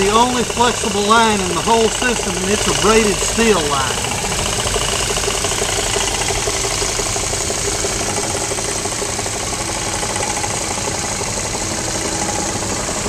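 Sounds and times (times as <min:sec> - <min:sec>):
car engine idling: 0:00.0 - 0:13.0
fast even ticking: 0:00.0 - 0:13.0.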